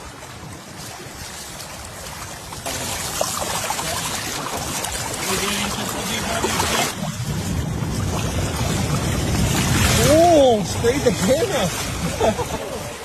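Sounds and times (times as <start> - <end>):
water flowing in a channel: 0.0 - 13.0.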